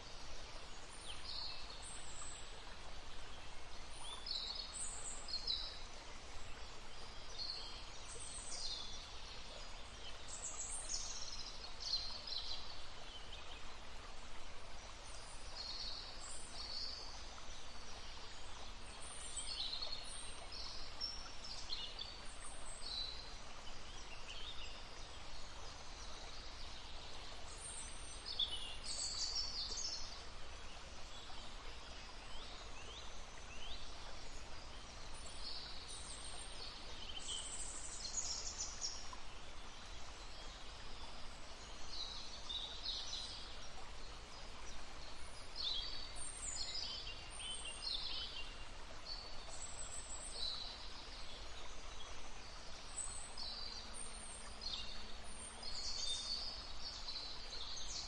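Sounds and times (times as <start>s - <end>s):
small stream murmuring: 0.0s - 58.0s.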